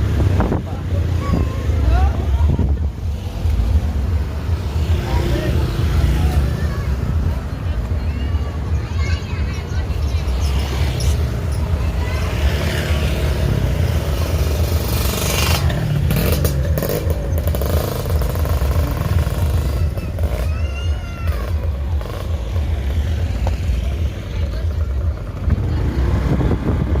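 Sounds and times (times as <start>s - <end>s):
bus engine and road noise: 0.0s - 27.0s.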